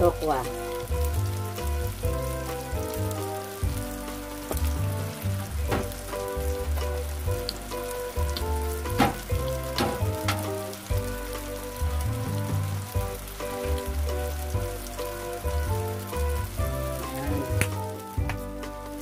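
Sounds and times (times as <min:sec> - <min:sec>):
background music with bassline: 0:00.0 - 0:19.0
tofu bubbling in a pot: 0:00.3 - 0:18.7.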